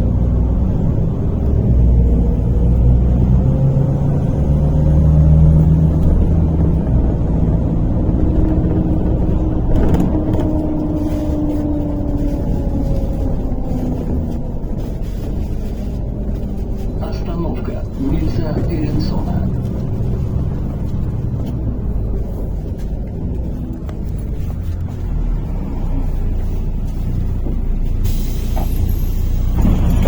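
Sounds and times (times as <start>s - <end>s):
bus engine running: 0.0s - 30.0s
drawn-out whine: 0.0s - 30.0s.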